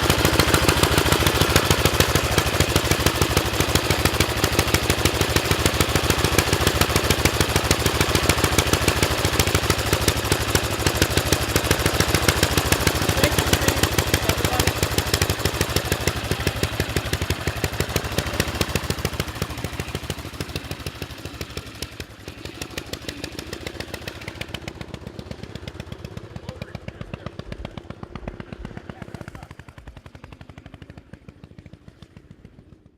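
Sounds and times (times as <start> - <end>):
motorcycle engine popping exhaust: 0.0 - 32.9.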